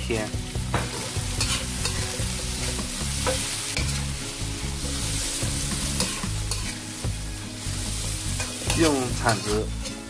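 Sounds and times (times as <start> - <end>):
vegetables sizzling in a wok: 0.0 - 10.0
spatula scraping the pan: 0.8 - 4.1, 4.7 - 10.0
metal spatula stirring and tossing: 0.8 - 10.0.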